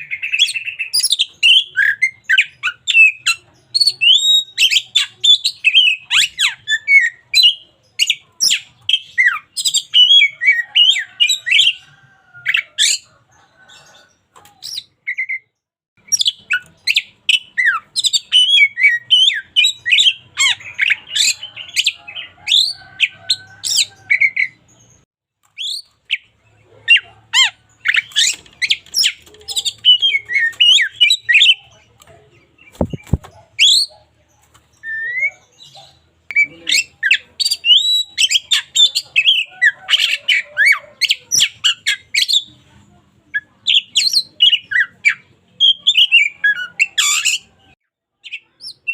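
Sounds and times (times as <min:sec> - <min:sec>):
bird singing high chirps: 0:00.0 - 0:25.0, 0:25.6 - 0:42.6.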